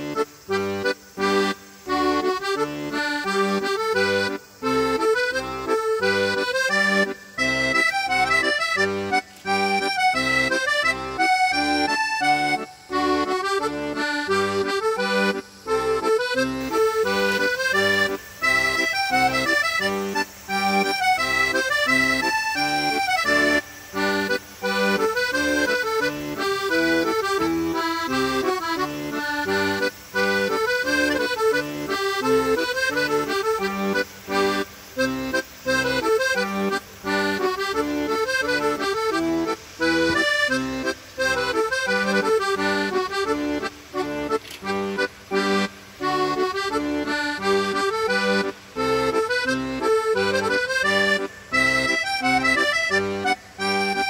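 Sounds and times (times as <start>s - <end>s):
instrumental background music: 0.0s - 54.0s.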